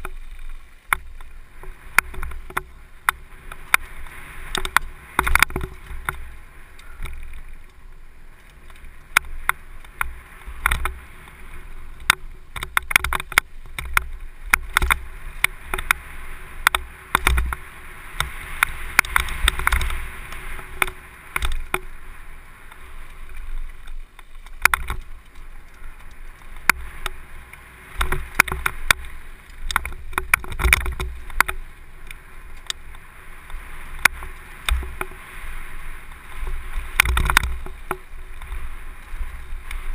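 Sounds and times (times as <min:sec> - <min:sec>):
bike clicks and rattles: 0:00.0 - 0:39.9
wind rumble on microphone: 0:00.0 - 0:39.9.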